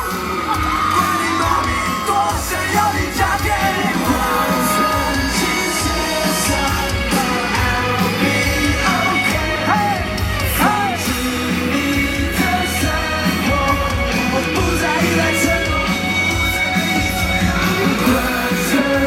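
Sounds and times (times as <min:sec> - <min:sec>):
live pop-rock music: 0:00.0 - 0:19.0
person singing: 0:00.0 - 0:19.0
steady drum beat: 0:00.0 - 0:19.0.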